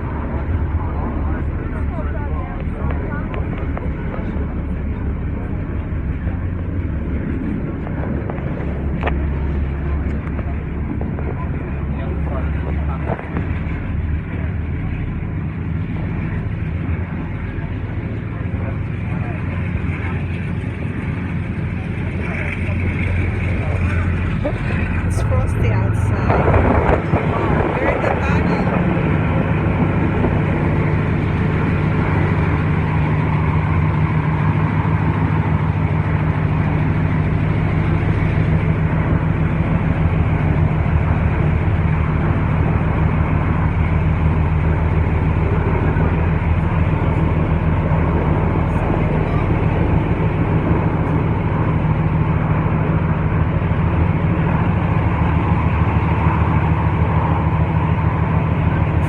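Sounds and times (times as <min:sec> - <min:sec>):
low even drone: 0:00.0 - 0:59.0
train rumble: 0:00.0 - 0:59.0.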